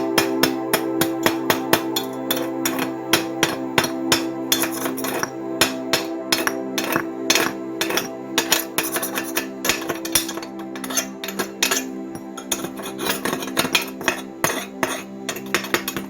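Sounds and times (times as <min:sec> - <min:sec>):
background music with held tones: 0:00.0 - 0:16.0.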